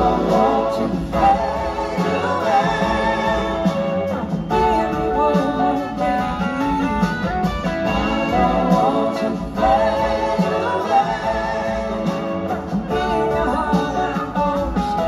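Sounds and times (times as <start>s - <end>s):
live blues-rock band: 0.0s - 15.0s.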